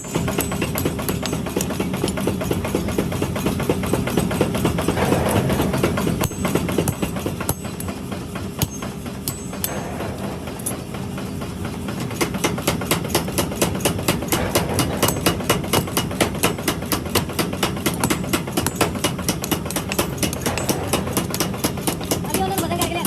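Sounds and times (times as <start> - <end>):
forging hammer striking metal: 0.0 - 23.0
steady machine hum: 0.0 - 23.0.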